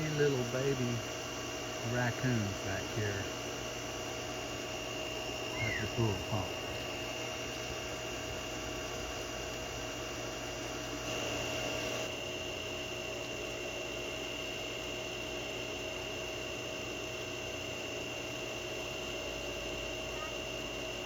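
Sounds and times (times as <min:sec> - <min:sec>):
pool pump motor humming: 0:00.0 - 0:21.0.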